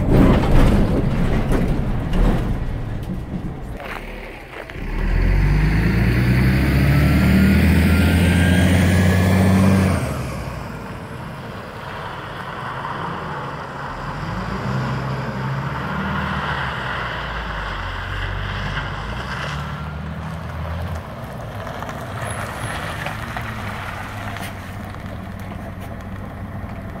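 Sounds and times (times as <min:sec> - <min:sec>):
bus diesel engine with whine: 0:00.0 - 0:27.0.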